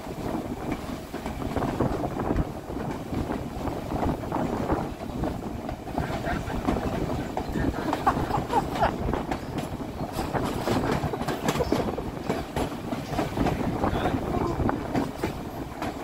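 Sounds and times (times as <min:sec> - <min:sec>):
railroad car rattling: 0:00.0 - 0:16.0
train wheels rumbling and clicking: 0:00.0 - 0:16.0.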